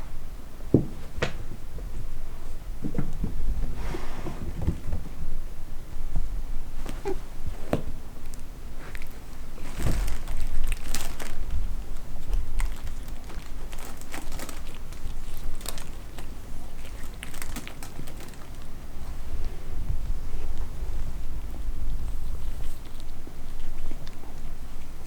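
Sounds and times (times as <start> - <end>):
cats scuffling: 0.8 - 25.0.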